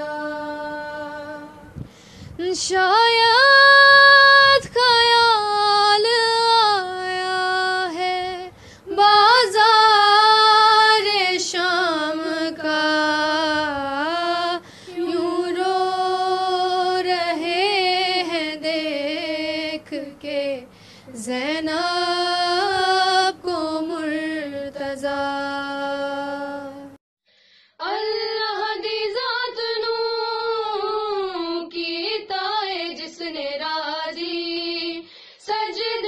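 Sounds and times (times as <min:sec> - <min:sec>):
women singing a lament in unison: 0:00.0 - 0:27.0, 0:27.8 - 0:36.0.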